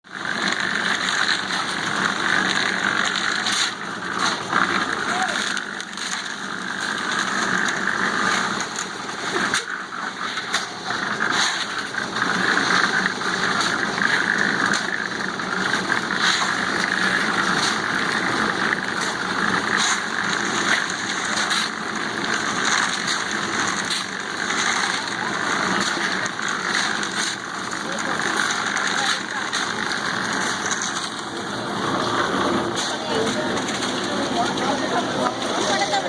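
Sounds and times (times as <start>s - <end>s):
machinery churning din: 0.1s - 36.0s.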